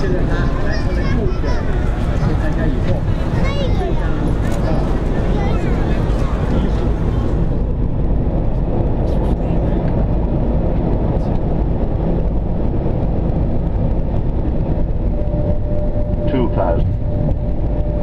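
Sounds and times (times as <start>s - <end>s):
airplane engine and airflow rumble: 0.0s - 18.0s.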